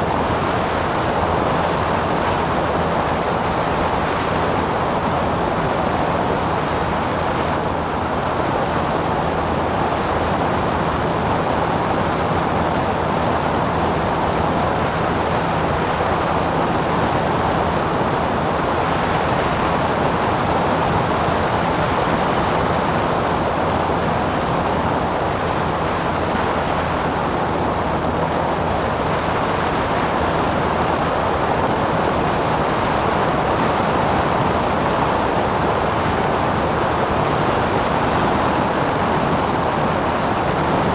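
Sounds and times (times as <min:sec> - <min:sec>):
airplane engine drone: 0:00.0 - 0:40.9.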